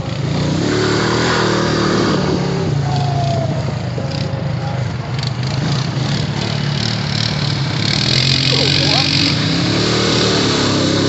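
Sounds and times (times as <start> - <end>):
atv engine running: 0.0 - 11.0
rattle and rush of riding: 0.0 - 11.0.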